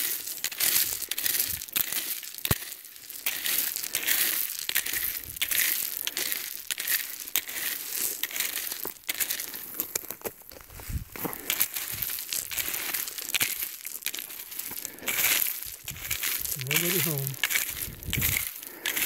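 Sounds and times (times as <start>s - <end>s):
rake scraping through gravel: 0.0s - 19.0s.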